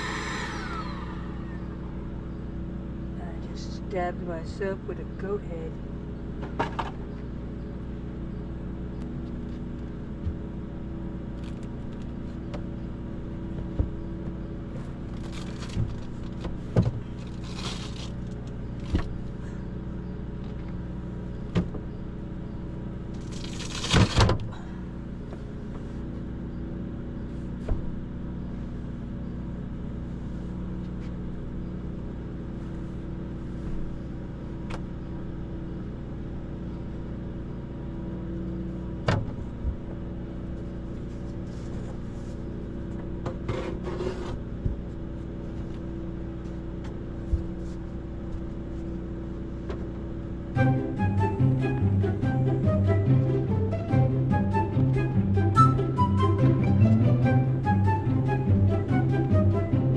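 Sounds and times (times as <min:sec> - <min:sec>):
motor hum: 0:00.0 - 0:59.9.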